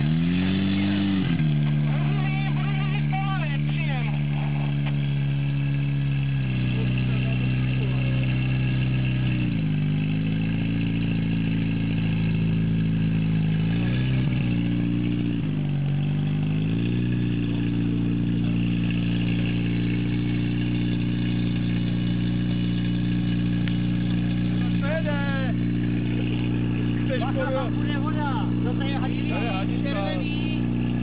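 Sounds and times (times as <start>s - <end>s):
fire pump engine running: 0.0s - 31.0s.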